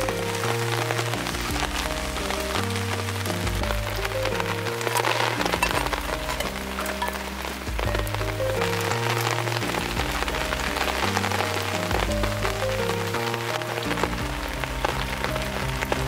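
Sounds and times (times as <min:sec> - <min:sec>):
background music: 0:00.0 - 0:16.0
rain falling: 0:00.0 - 0:16.0.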